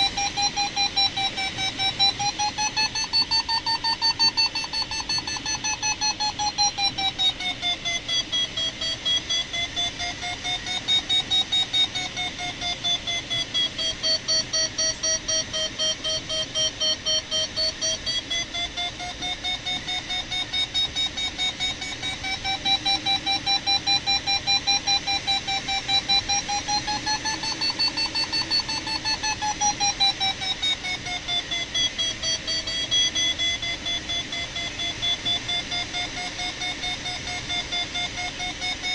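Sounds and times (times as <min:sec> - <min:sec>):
rapid electronic beeping: 0:00.0 - 0:38.9.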